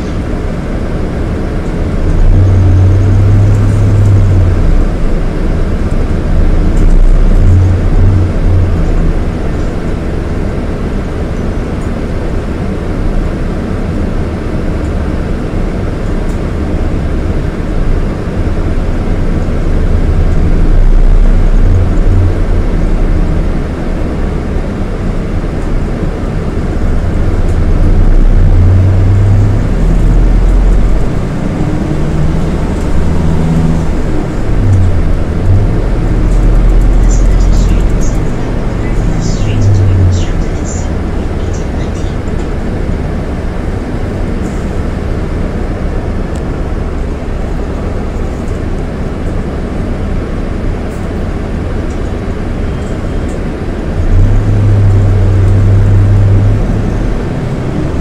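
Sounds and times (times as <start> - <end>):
diesel coach engine droning: 0.0 - 58.0.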